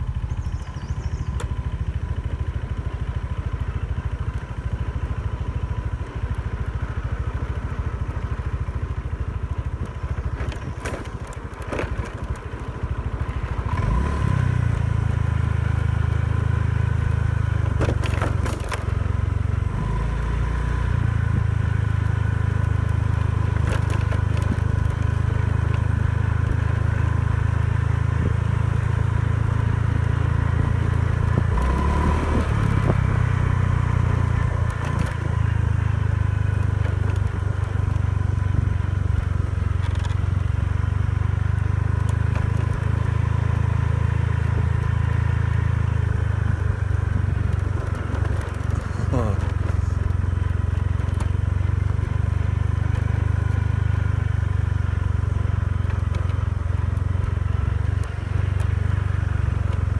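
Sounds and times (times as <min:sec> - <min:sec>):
scooter engine humming: 0:00.0 - 0:59.9.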